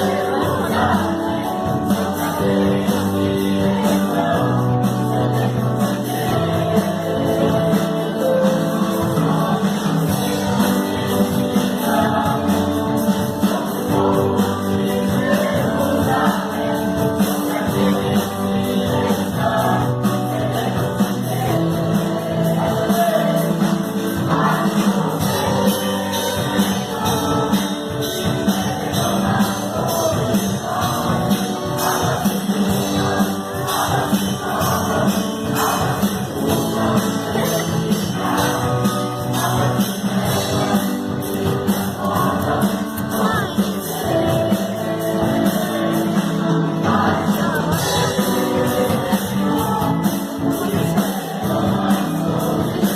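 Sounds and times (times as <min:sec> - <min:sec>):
choir singing: 0:00.0 - 0:52.9
gospel music with driving beat: 0:00.0 - 0:52.9.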